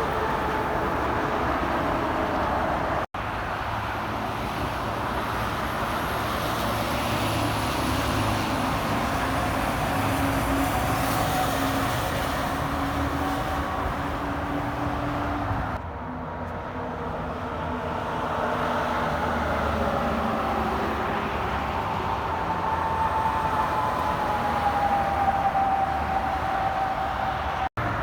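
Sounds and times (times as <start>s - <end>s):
trucks and traffic passing: 0.0s - 28.0s.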